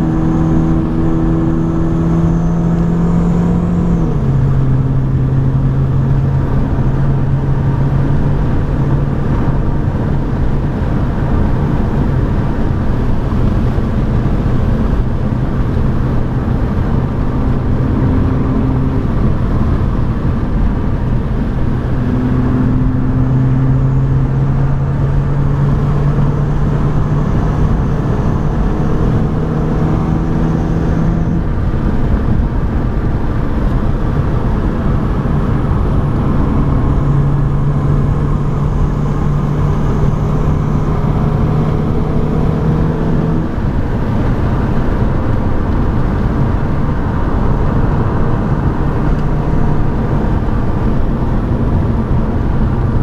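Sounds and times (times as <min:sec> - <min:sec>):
car engine at speed from inside: 0:00.0 - 0:53.0
road and wind noise: 0:00.0 - 0:53.0.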